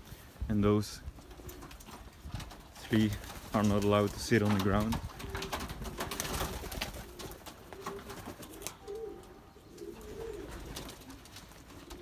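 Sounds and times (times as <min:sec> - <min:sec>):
pigeons cooing: 0:01.1 - 0:12.0.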